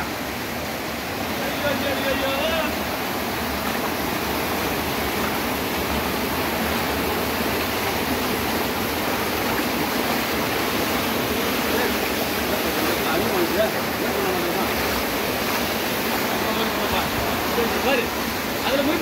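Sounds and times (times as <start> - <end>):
heavy rain: 0.0 - 19.0
rainwater rushing over ground: 0.0 - 19.0.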